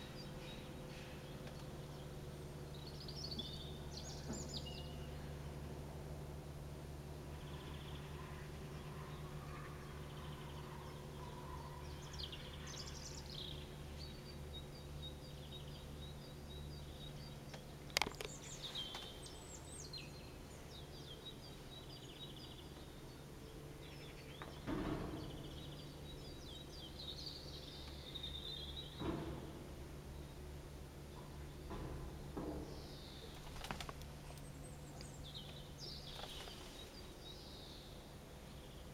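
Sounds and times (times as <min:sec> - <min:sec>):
small birds chirping: 0:00.0 - 0:05.7, 0:07.2 - 0:38.9
steady low hum: 0:00.0 - 0:38.9.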